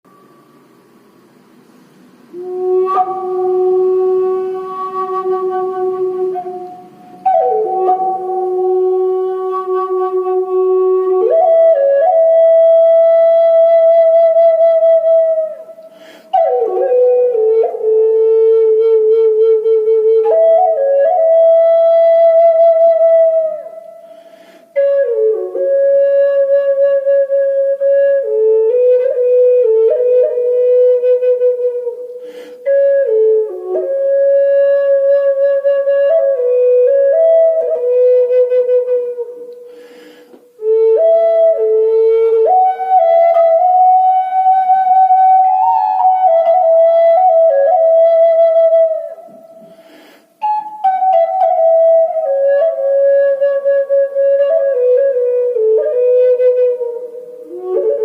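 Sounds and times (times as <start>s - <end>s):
flute playing slow melody: 2.3s - 58.0s.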